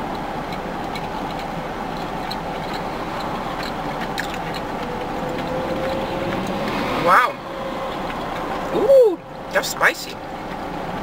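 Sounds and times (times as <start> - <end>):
background hum: 0.0 - 11.0.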